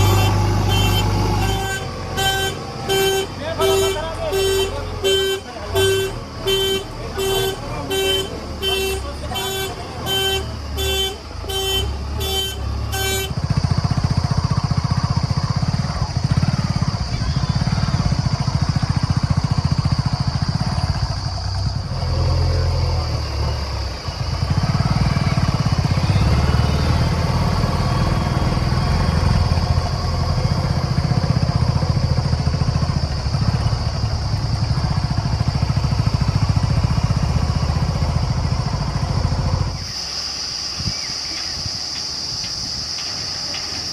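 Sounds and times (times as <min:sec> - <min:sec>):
diesel engine running: 0:00.0 - 0:40.7.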